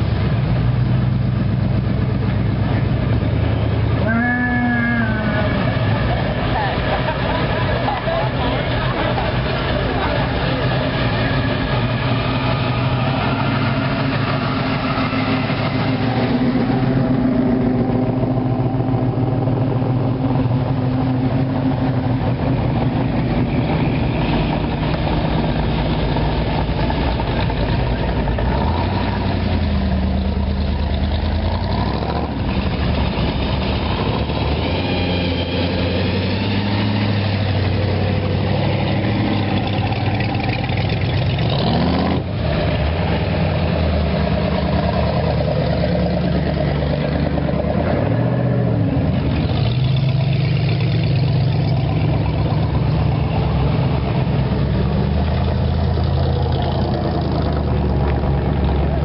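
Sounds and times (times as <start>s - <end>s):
car engines driving past: 0.0s - 59.0s.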